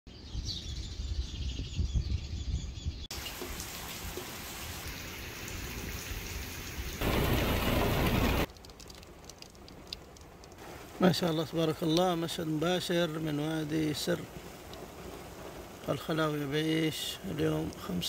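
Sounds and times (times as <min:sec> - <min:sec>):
rain falling: 0:03.1 - 0:18.0.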